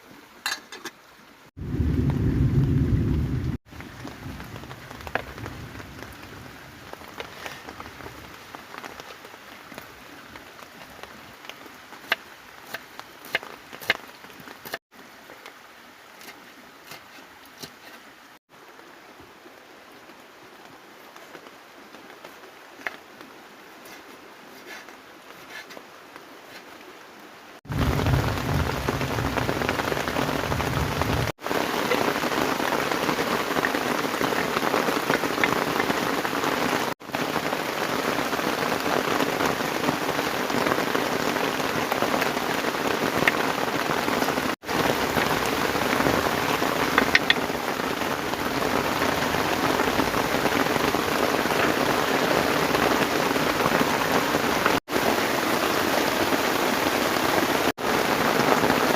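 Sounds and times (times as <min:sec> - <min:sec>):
heavy rain pouring: 0:00.0 - 0:17.4, 0:18.0 - 0:58.9.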